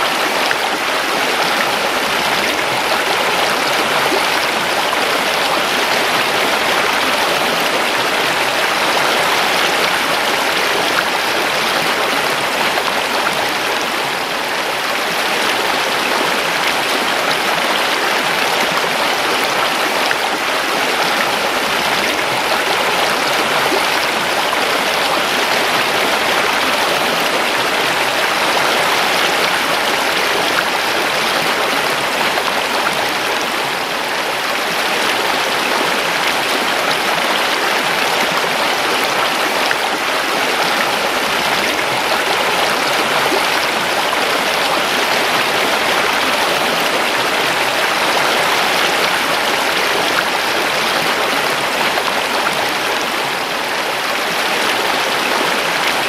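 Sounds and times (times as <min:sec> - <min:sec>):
river rushing and babbling: 0:00.0 - 0:56.0.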